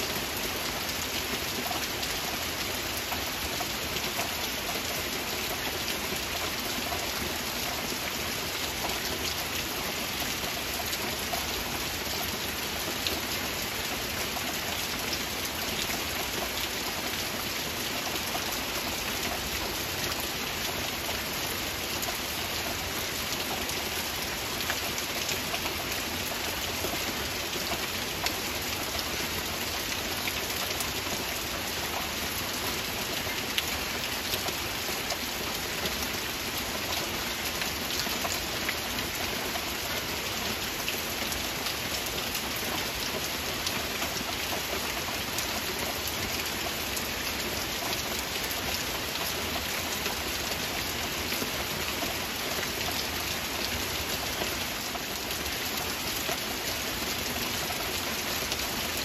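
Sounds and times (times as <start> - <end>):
heavy rain falling: 0.0 - 59.0
rain drops ticking: 0.0 - 59.0.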